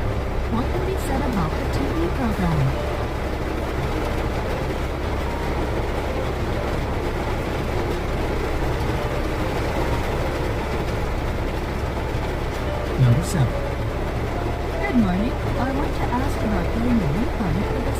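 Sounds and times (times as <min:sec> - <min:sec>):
car engine humming: 0:00.0 - 0:17.9
heavy rain on car roof: 0:00.0 - 0:17.9.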